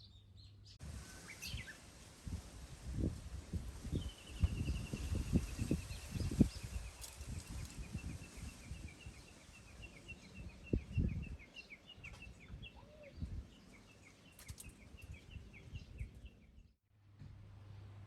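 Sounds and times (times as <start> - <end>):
wind rumble on microphone: 0.8 - 16.7.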